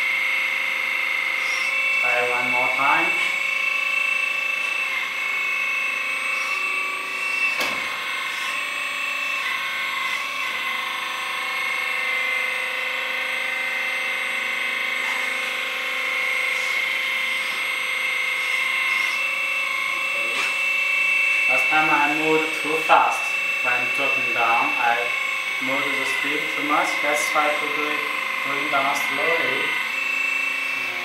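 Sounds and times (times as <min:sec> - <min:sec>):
hydraulic pump whining: 0:00.0 - 0:31.0.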